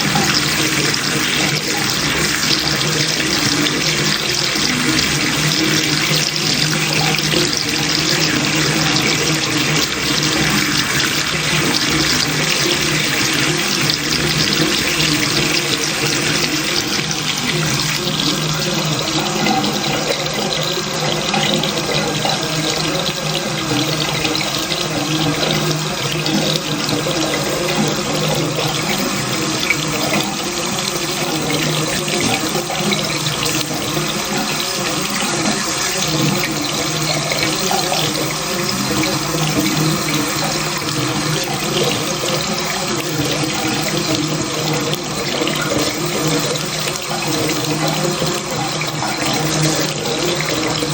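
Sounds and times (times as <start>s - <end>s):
tap water splashing into sink: 0.0s - 50.9s.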